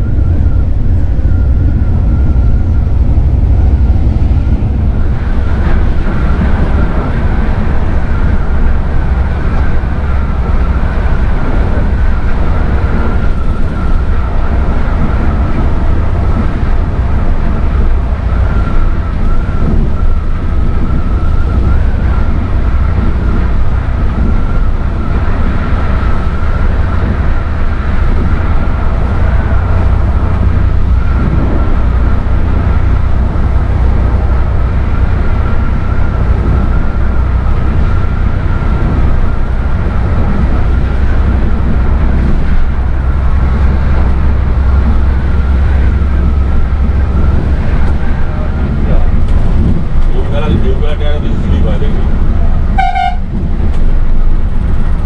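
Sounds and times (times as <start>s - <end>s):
bus engine rumble: 0.0s - 55.0s
high whine: 0.0s - 55.0s.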